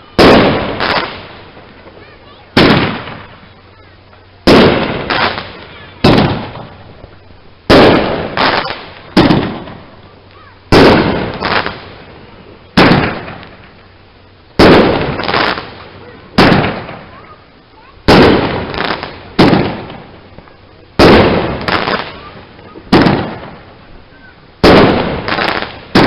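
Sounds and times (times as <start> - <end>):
fireworks bursting with loud bangs: 0.0 - 26.0.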